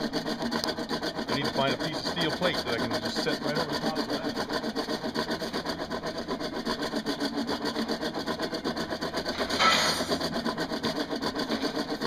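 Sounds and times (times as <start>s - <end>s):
hand-cranked forge blower whirring: 0.0s - 12.0s.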